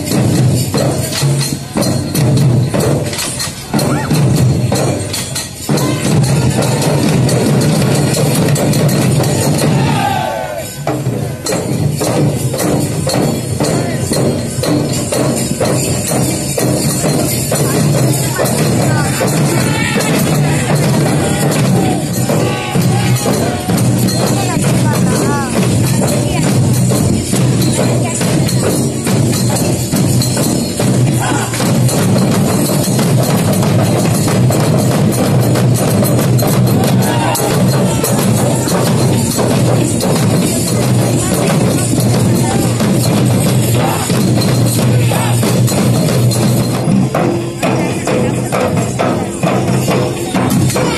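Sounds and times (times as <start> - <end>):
barrel drums beaten with sticks: 0.0 - 50.9.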